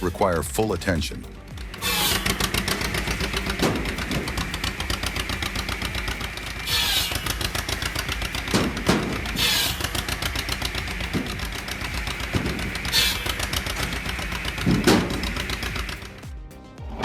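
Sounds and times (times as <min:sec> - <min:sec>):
tractor engine popping exhaust: 0:00.0 - 0:17.0
hissing bursts: 0:01.4 - 0:16.2.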